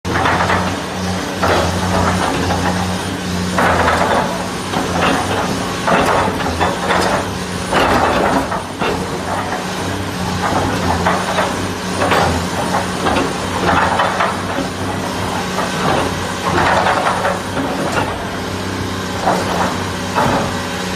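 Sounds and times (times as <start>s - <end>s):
excavator diesel engine humming: 0.1s - 20.9s.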